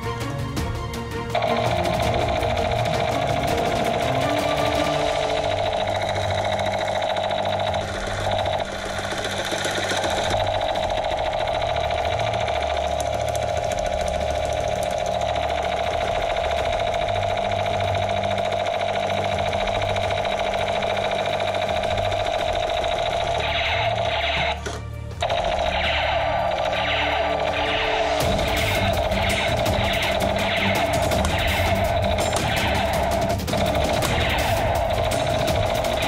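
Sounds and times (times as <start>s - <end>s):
toy gun firing: 1.4s - 36.0s.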